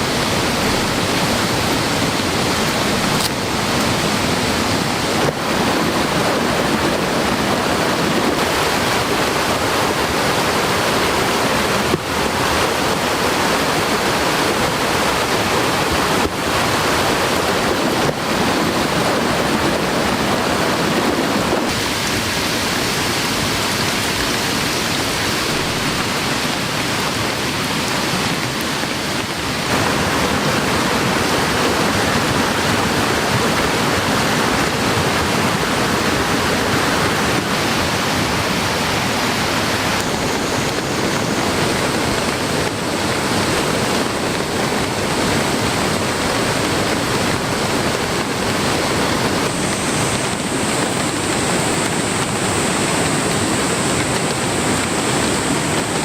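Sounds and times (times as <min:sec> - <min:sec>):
heavy rain: 0:00.0 - 0:56.0
mountain stream rushing: 0:00.0 - 0:56.0.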